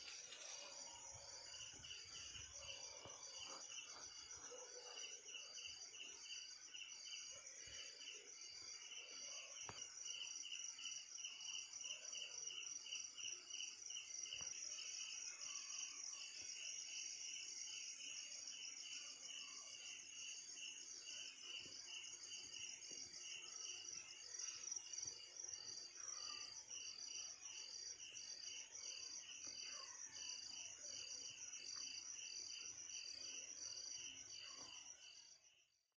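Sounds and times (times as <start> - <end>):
crickets chirping: 0.0 - 35.9.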